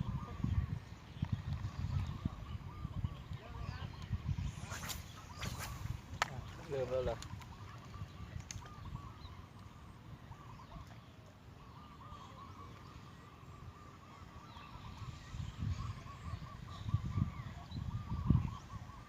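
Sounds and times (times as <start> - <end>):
birds calling in short notes: 0.0 - 19.0
wind rumbling on microphone: 0.0 - 19.0.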